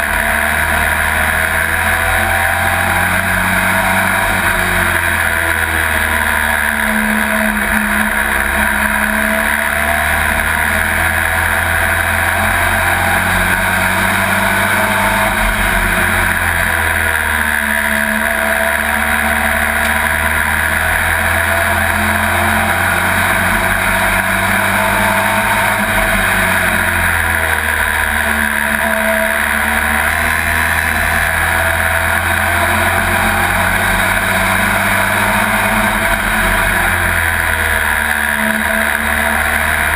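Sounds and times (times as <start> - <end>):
race truck engine revving: 0.0 - 39.9
wind and road noise: 0.0 - 39.9.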